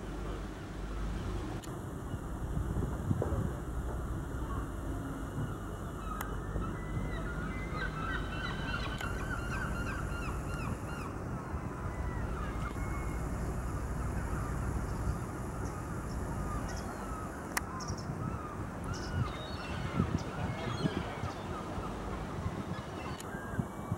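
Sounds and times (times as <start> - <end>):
steady low rumble: 0.0 - 23.0
gulls calling: 3.5 - 23.9.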